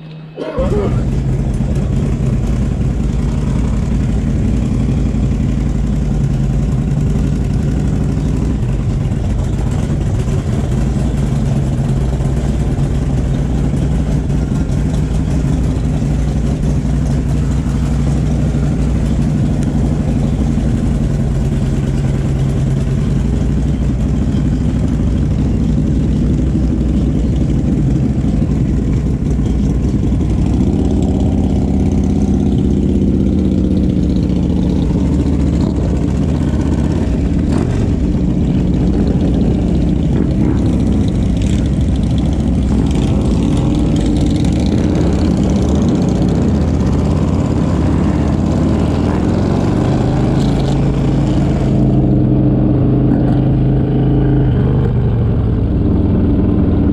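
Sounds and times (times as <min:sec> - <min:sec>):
motorcycle engine idling: 0:00.6 - 0:53.9.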